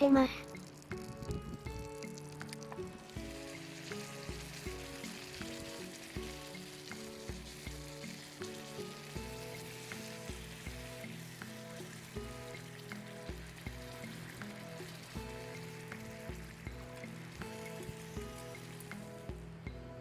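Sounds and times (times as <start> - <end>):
food sizzling in a pan: 0.0 - 20.0
music with steady beat: 0.0 - 20.0.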